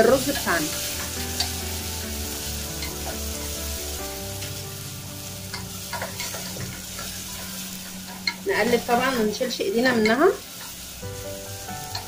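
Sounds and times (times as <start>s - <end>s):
onions and tomato sizzling in oil: 0.0s - 12.0s.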